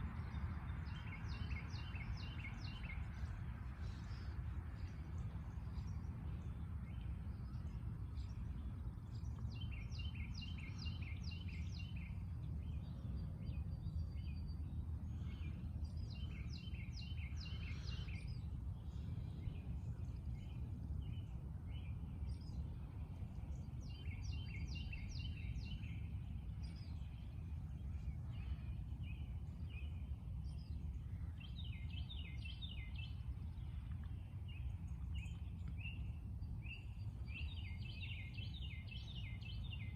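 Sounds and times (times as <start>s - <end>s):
songbirds singing: 0.0s - 39.9s
steady low rumble: 0.0s - 39.9s.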